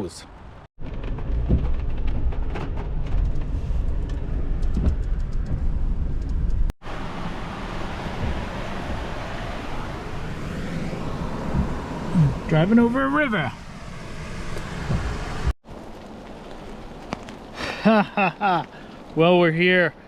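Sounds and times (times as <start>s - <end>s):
car driving on road: 0.3s - 17.8s
rain and wind on microphone: 0.8s - 20.0s.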